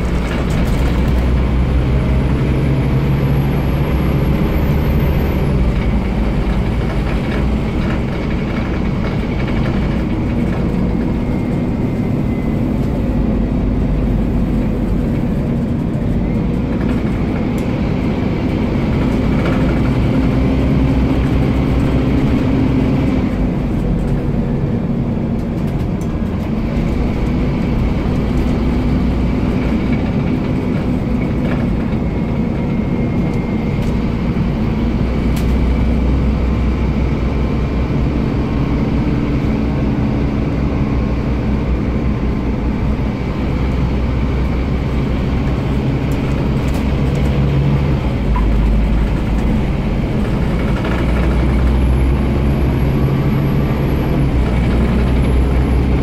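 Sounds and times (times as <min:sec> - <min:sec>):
bus diesel engine drone: 0:00.0 - 0:56.0
road and tyre noise: 0:00.0 - 0:56.0.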